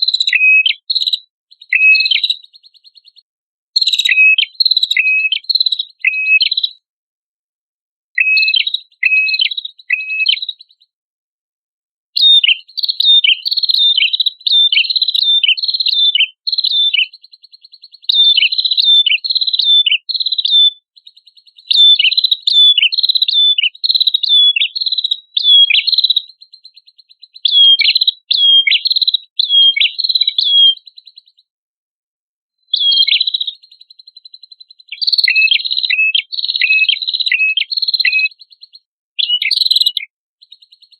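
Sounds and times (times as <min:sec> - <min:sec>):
songbird singing high chirps: 0:00.0 - 0:06.8, 0:08.2 - 0:10.9, 0:12.2 - 0:31.5, 0:32.6 - 0:40.9.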